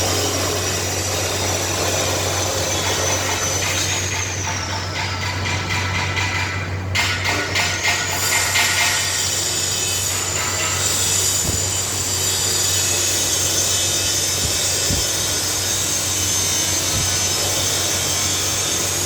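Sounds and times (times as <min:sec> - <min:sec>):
power tool grinding metal: 0:00.0 - 0:04.9, 0:07.2 - 0:19.0.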